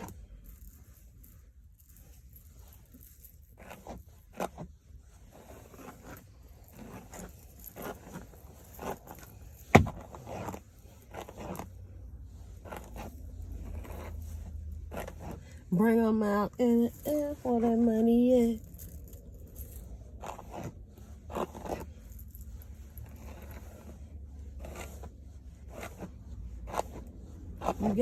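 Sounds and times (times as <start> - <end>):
hairbrush strokes through wig: 0.0 - 28.0.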